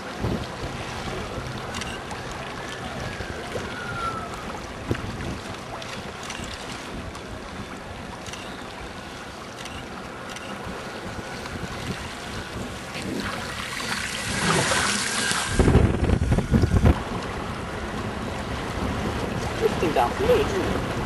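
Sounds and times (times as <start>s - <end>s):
wind on microphone: 0.0s - 9.0s, 10.4s - 21.0s
waves and water: 0.0s - 21.0s.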